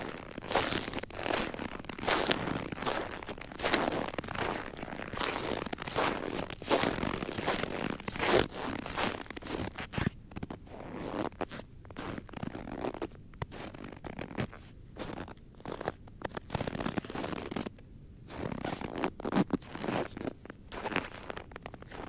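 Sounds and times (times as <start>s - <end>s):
footsteps crunching in snow: 0.0s - 22.0s.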